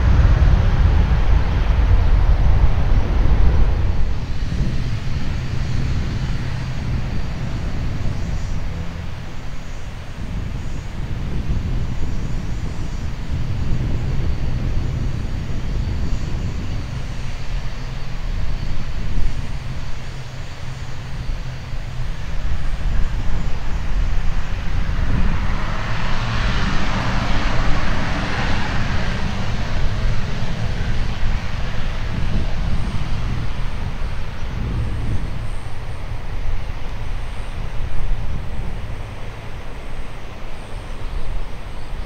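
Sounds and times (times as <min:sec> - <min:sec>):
turboprop engines running: 0:00.0 - 0:42.0.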